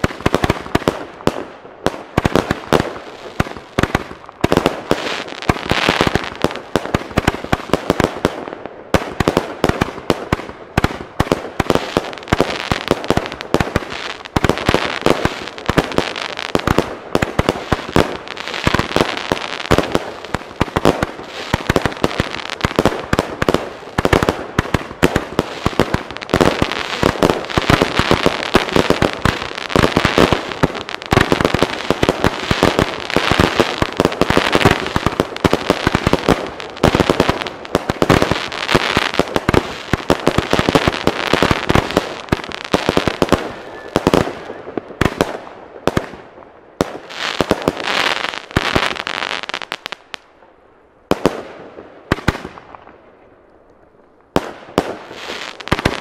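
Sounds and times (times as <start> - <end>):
fireworks barrage: 0.0 - 50.2, 54.3 - 56.0.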